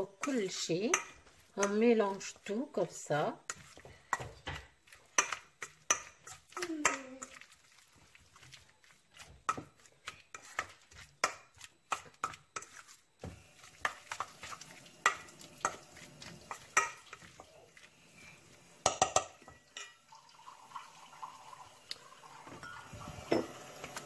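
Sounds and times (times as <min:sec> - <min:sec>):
chicken mixed in metal bowl: 0:00.0 - 0:20.0.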